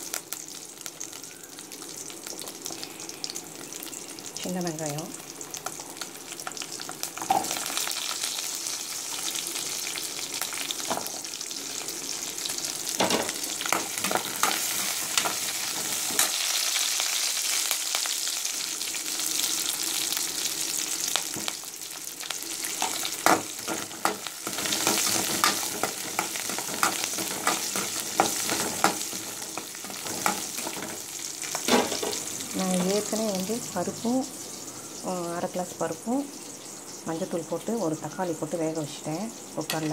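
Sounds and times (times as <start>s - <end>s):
shallots sizzling in oil: 0.0s - 39.9s.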